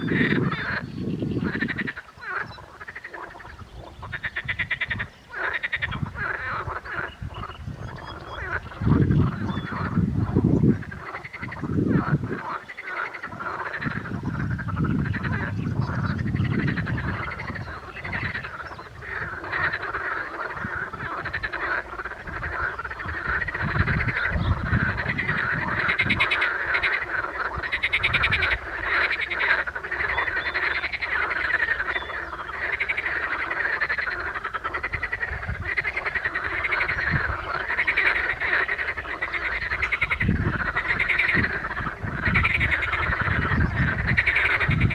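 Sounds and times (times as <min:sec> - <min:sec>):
chorus of frogs croaking: 0:00.0 - 0:44.9.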